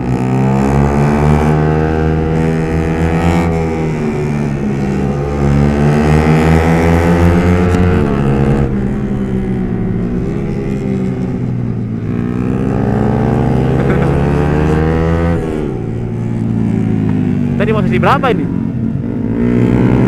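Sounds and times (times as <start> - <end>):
motorcycle engine revving high: 0.0 - 20.0.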